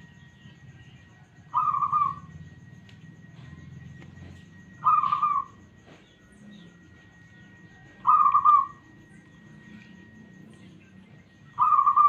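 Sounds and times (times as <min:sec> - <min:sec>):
background hum and hiss: 0:00.0 - 0:12.0
steady high-pitched tone: 0:00.0 - 0:12.0.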